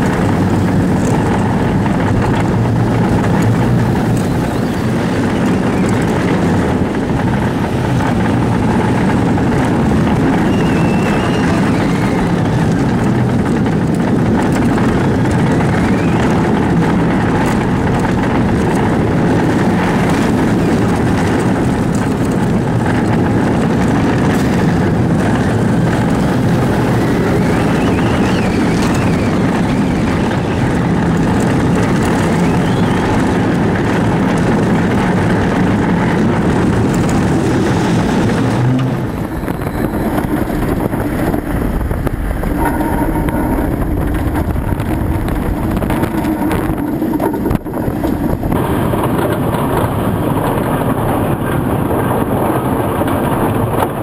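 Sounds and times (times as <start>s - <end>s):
roller coaster wheels roaring on rail: 0.0s - 54.0s
wind rushing over microphone: 0.0s - 54.0s.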